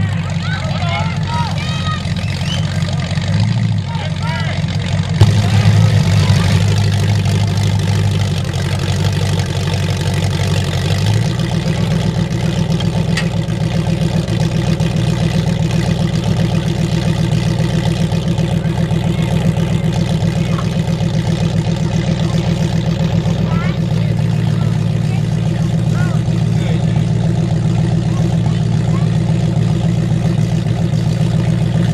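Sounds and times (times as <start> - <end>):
truck engine lumpy idle: 0.0 - 31.9.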